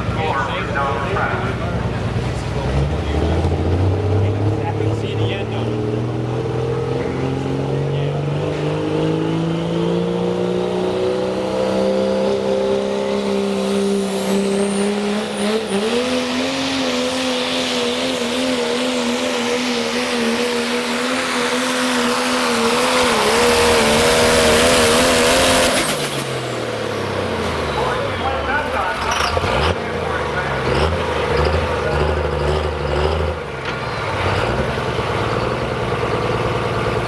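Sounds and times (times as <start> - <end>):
diesel engine under heavy load: 0.0 - 37.0.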